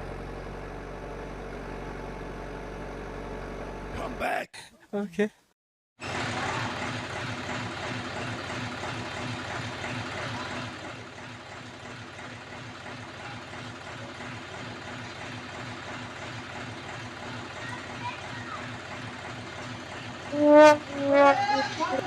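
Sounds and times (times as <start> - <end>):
engine idling with throb: 0.0 - 4.1, 6.0 - 22.0.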